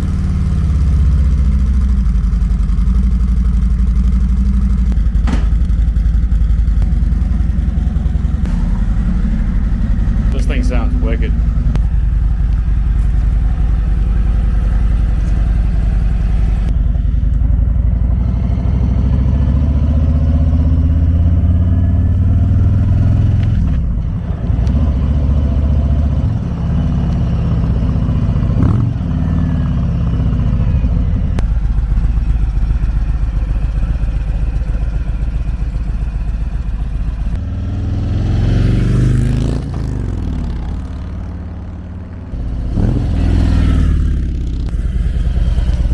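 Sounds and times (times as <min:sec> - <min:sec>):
motorcycle engine idling: 0:00.0 - 0:19.5, 0:26.4 - 0:37.4, 0:39.1 - 0:45.9.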